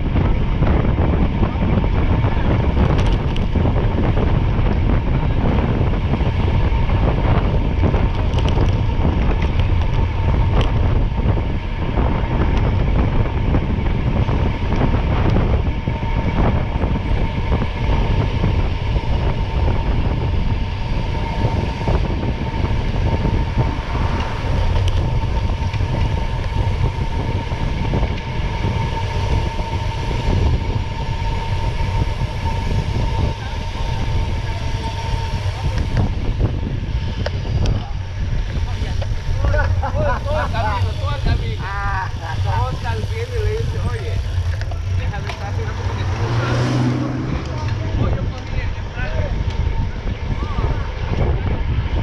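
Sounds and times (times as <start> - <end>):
constant whine: 0.0 - 52.0
vehicle rumble: 0.0 - 52.0.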